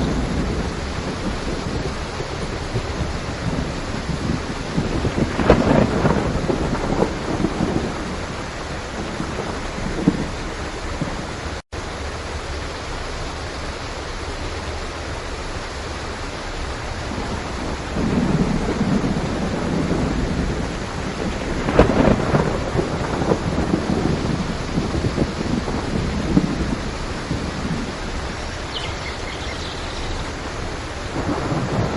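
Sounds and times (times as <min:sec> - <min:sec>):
rolling thunder: 0:00.0 - 0:11.4, 0:17.0 - 0:31.9
heavy rain: 0:00.0 - 0:31.9.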